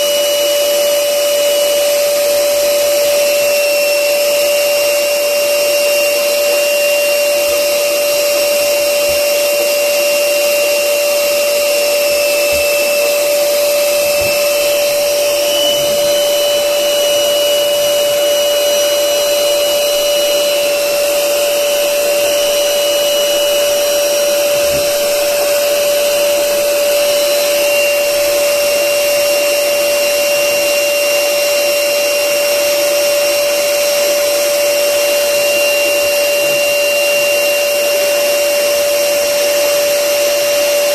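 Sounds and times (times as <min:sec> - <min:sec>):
electric air blower whining: 0:00.0 - 0:40.9.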